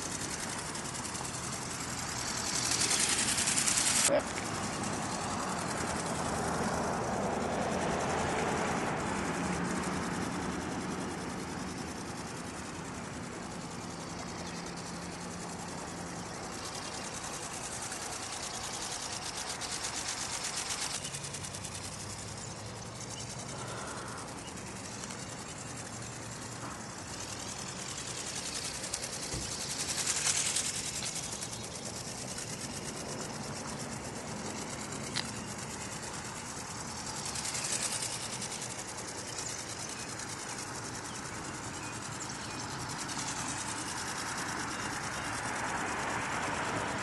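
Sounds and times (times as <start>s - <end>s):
small electric motor buzzing: 0.0s - 47.0s.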